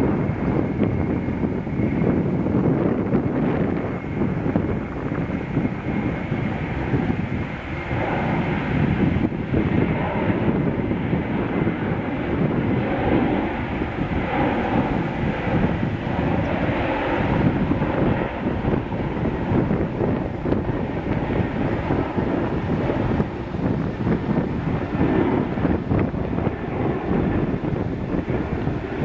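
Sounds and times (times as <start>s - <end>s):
jet engines at takeoff thrust: 0.0s - 29.0s.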